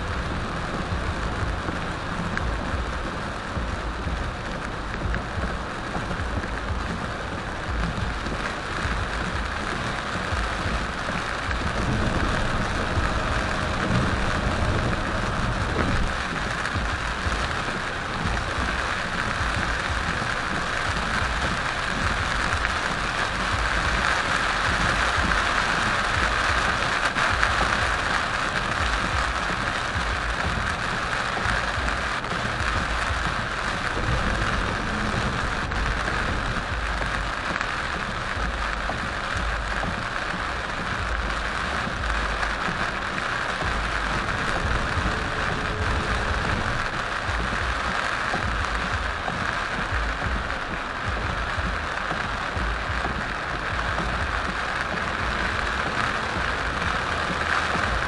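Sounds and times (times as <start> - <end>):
heavy rain on a car: 0.0 - 58.0
low road rumble: 0.0 - 58.0.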